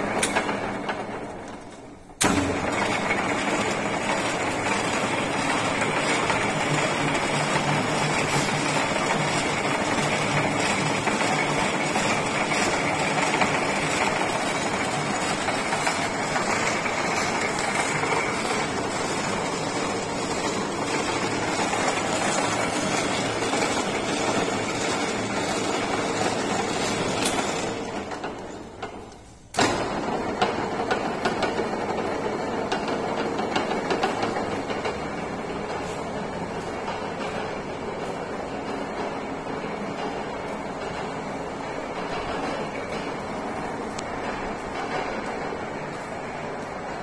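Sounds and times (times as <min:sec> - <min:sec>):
lathe mechanical whir: 0:00.0 - 0:47.0.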